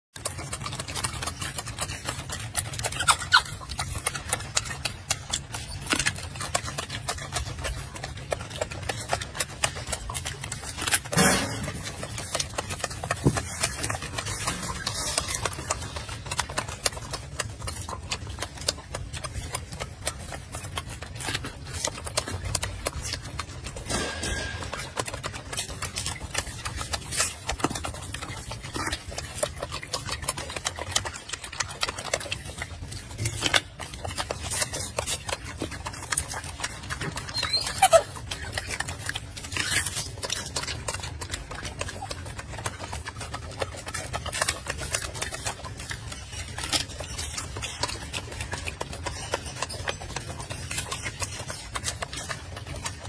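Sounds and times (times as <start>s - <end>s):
monkey chewing fruit: 0.1s - 53.0s.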